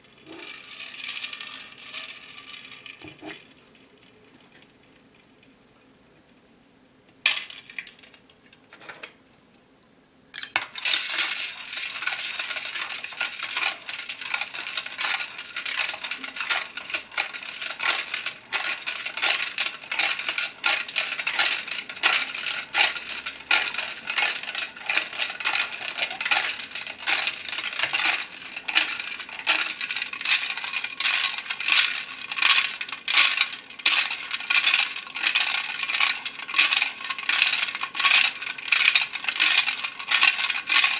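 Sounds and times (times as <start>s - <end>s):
plastic beads rattling in container: 0.4s - 3.0s, 10.8s - 40.9s.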